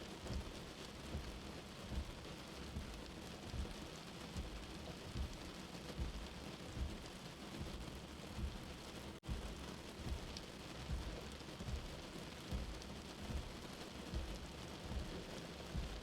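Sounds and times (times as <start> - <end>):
steady rain: 0.0 - 16.0
low soft heartbeat thump: 0.2 - 16.0.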